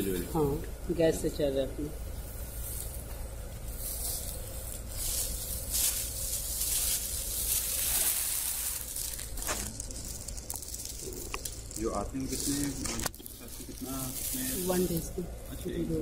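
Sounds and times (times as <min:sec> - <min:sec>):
gas heaters hissing: 0:00.0 - 0:16.0.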